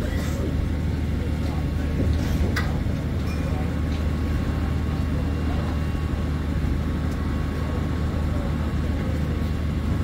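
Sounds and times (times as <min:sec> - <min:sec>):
large engine droning: 0:00.0 - 0:10.0.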